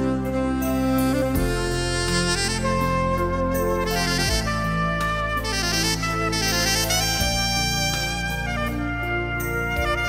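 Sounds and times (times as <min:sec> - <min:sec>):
instrumental melody: 0:00.0 - 0:10.0
steady bass line: 0:00.0 - 0:10.0.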